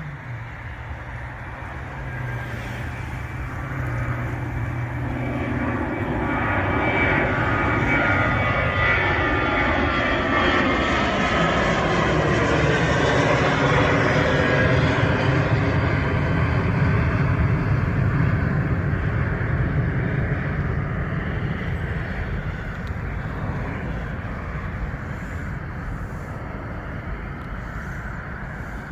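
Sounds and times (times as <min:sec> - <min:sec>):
jet engine rumble: 0:00.0 - 0:28.9.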